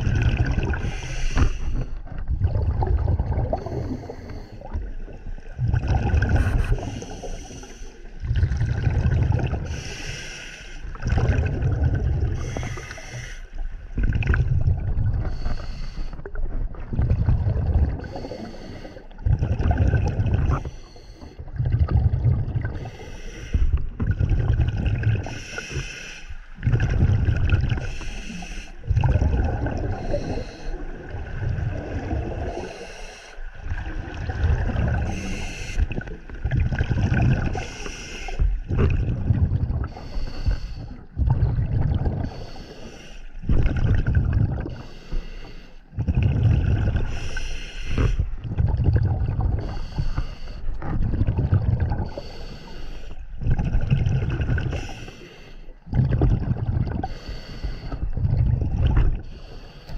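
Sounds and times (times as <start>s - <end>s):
exhaled bubbles rumbling: 0.0s - 59.9s.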